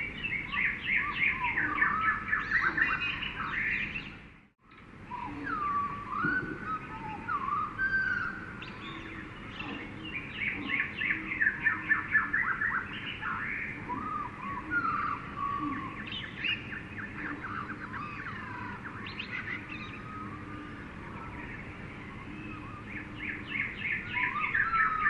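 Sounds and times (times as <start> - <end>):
birds whistling and chirping: 0.0 - 25.0
faint low background hum: 0.0 - 25.0.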